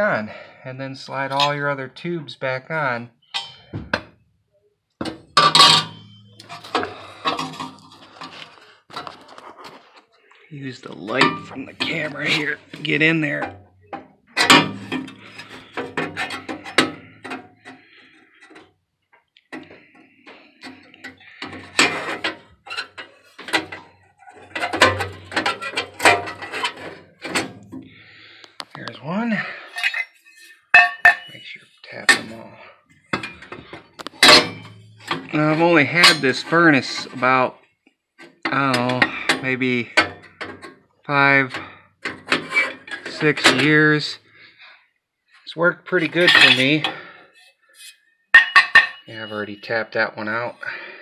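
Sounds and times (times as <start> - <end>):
metal tubes clanking and scraping: 1.1 - 1.7, 3.2 - 4.1, 5.0 - 18.7, 19.6 - 37.6, 38.2 - 44.7, 45.4 - 51.0.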